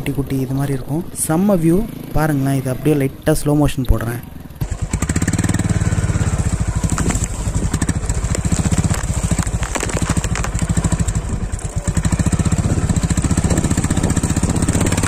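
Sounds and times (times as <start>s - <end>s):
motorcycle engine running: 1.0s - 3.2s, 4.0s - 15.0s.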